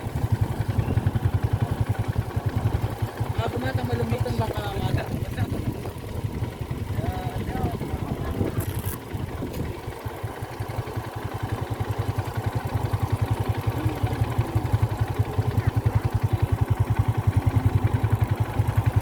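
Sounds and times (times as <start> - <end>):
small engine puttering: 0.0 - 19.0.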